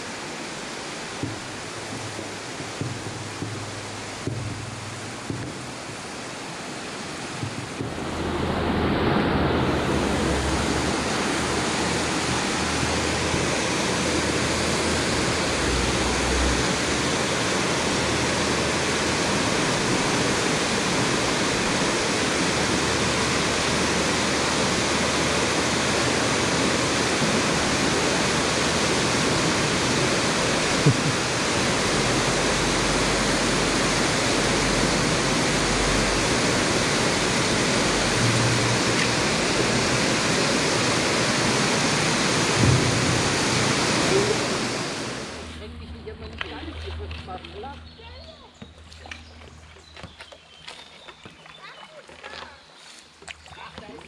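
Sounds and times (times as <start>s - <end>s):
river water rushing over rocks: 0.0s - 45.6s.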